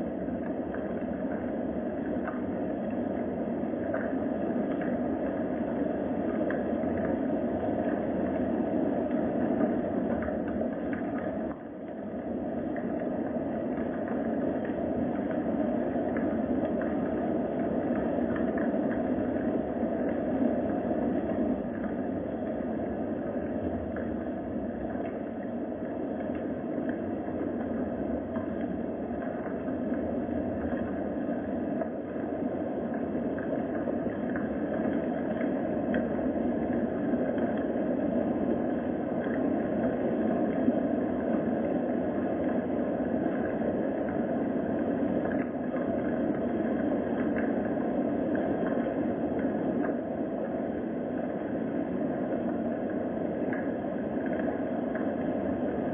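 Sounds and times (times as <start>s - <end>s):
faint rain patter: 0.0s - 55.9s
steady rain hiss: 0.0s - 55.9s.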